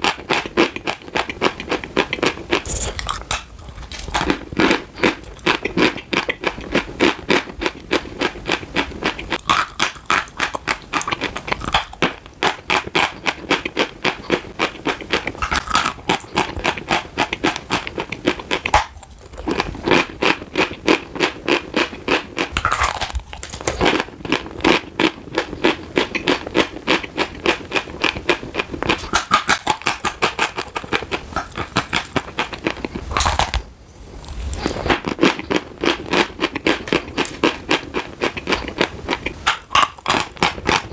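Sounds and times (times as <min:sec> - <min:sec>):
chalk being chewed: 0:00.0 - 0:33.6, 0:34.2 - 0:40.9.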